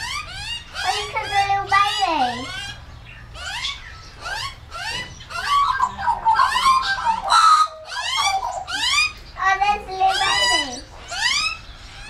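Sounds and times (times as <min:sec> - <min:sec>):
magpie warbling: 0:00.0 - 0:02.8, 0:03.4 - 0:12.0
young bird begging squawks: 0:00.0 - 0:12.0.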